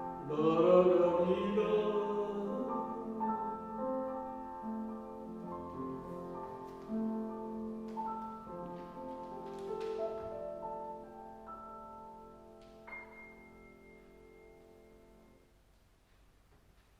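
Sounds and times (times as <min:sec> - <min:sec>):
piano playing slow chords: 0:00.0 - 0:15.7.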